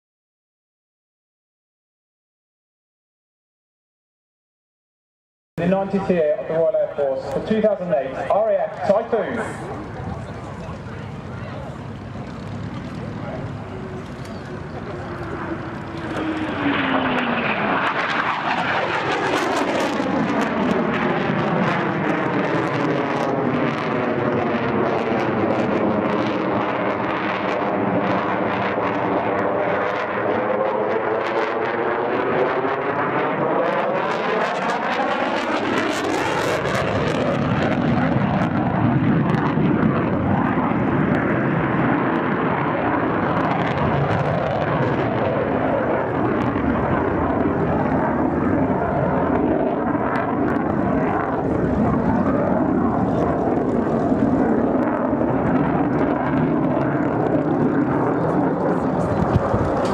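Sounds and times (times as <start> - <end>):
jet engine roar: 5.6 - 59.9.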